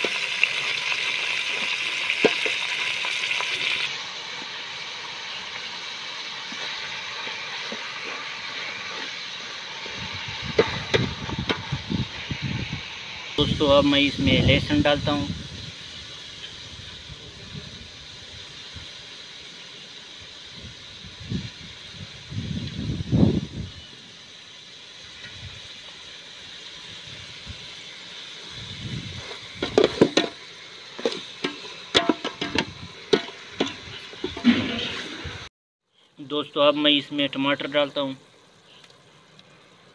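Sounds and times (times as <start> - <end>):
chicken sizzling in a pot: 0.0 - 35.5.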